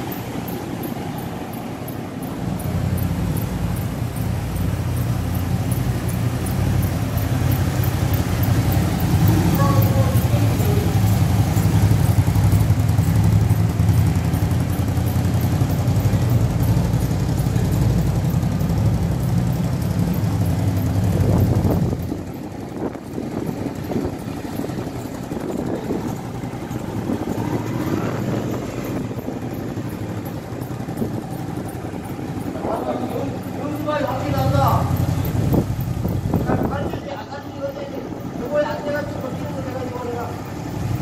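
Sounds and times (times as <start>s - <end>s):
motorcycle engine rumbling: 0.0s - 41.0s.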